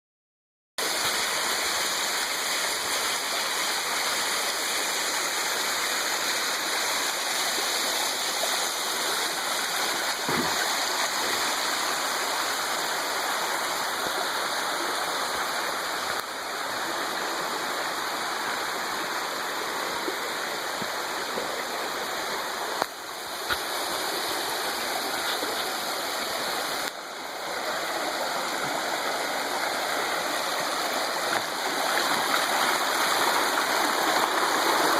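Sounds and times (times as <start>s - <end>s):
stream water rushing: 0.8s - 34.9s.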